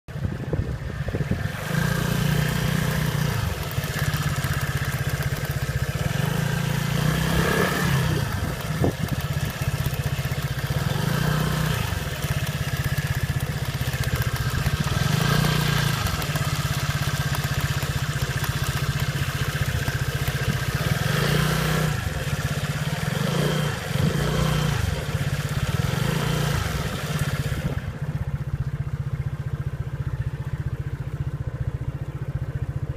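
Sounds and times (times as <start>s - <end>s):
road noise: 0.0s - 32.9s
scooter engine running: 0.1s - 32.9s.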